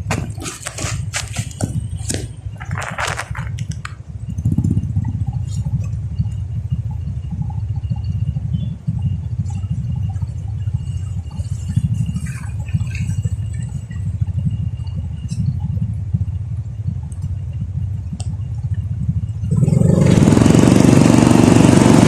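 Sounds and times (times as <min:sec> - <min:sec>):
vehicle road and wind noise: 0:00.0 - 0:22.0.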